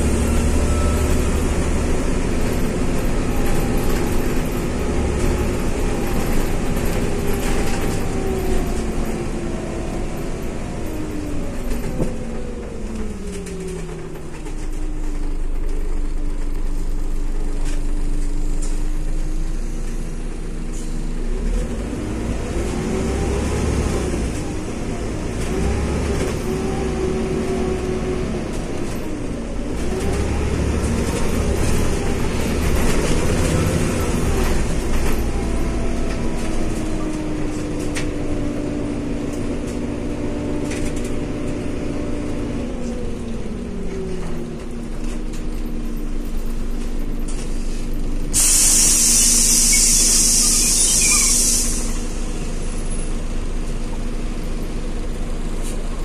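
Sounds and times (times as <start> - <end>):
bus engine and driveline whine: 0.0 - 56.0
low road rumble: 0.0 - 56.0.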